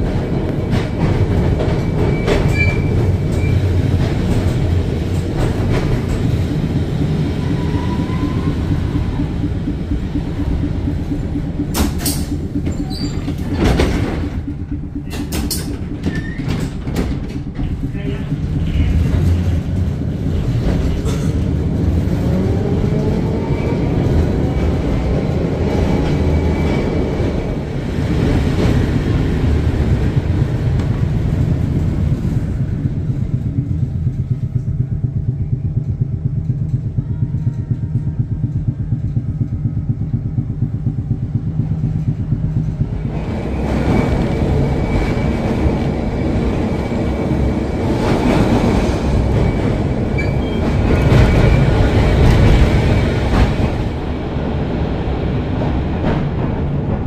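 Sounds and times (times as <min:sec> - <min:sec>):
low rumble: 0:00.0 - 0:57.0
tram whine rising in pitch: 0:00.0 - 0:57.0.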